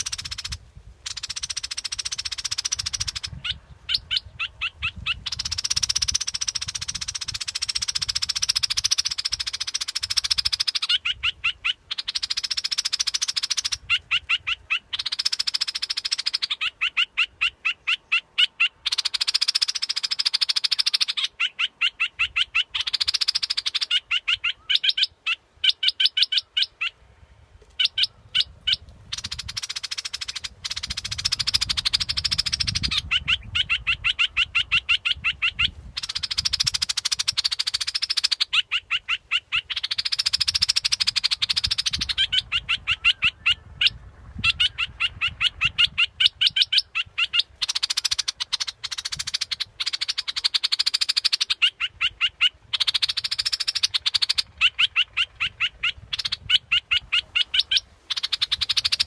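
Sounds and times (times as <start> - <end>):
bulbul call: 0.0 - 26.7, 27.8 - 59.0.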